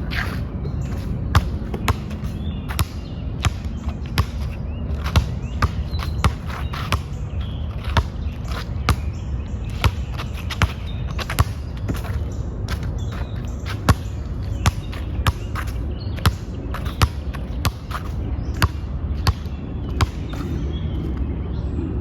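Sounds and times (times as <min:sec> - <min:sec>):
steady low rumble: 0:00.0 - 0:22.0
basketball bouncing: 0:00.9 - 0:07.2, 0:07.8 - 0:09.1, 0:09.7 - 0:20.6.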